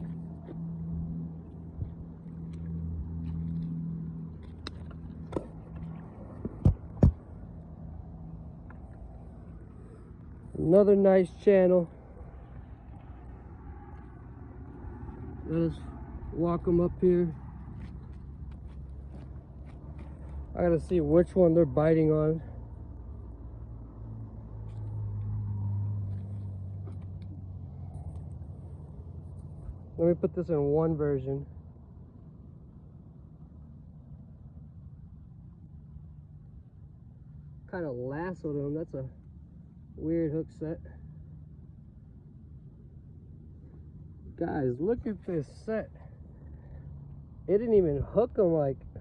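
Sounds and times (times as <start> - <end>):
low hum of passing engine: 0.0 - 49.0.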